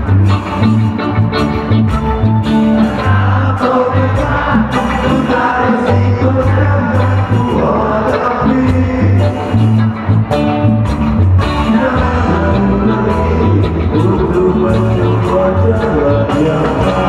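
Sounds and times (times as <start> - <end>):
live reggae band playing: 0.0 - 17.0.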